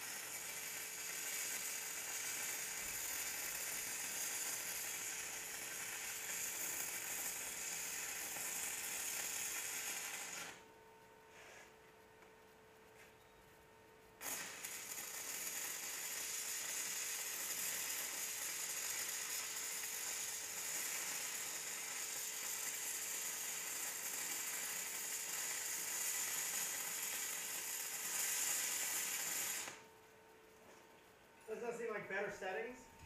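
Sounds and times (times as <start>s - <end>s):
welding arc hissing crackle: 0.0s - 10.7s, 14.0s - 33.0s.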